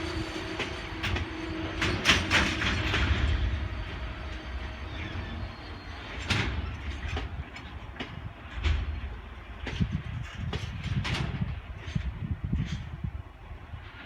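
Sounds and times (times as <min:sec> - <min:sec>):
train wagons rumbling past: 0:00.0 - 0:14.0.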